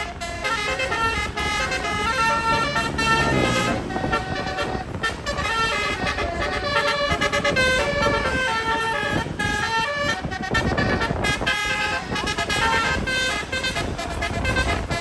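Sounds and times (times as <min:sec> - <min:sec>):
musical bus horn playing a tune: 0:00.0 - 0:15.0.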